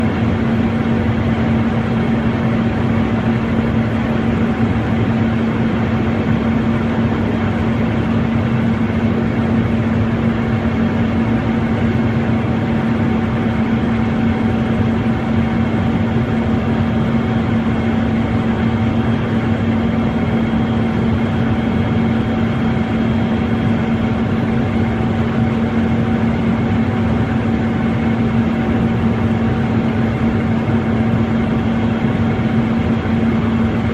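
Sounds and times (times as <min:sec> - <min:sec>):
steady engine drone: 0:00.0 - 0:33.9.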